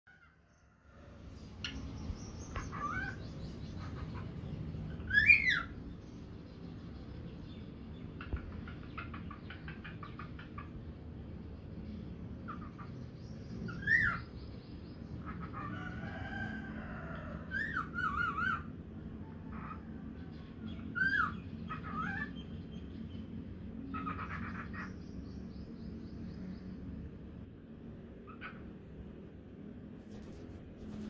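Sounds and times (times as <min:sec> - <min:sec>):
soft bird chatter: 0:00.1 - 0:27.5, 0:28.1 - 0:29.3.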